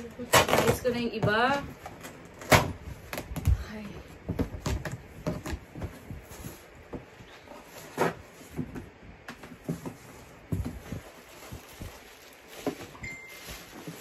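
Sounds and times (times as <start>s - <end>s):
cardboard and plastic wrapping handled: 0.0s - 14.0s.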